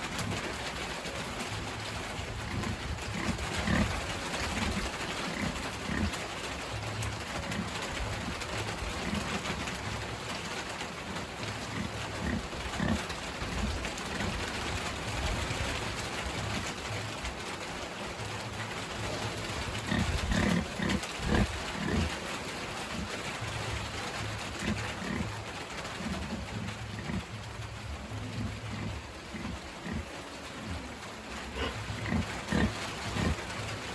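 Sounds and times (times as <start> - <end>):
pigs grunting: 0.0 - 17.2, 18.4 - 33.9.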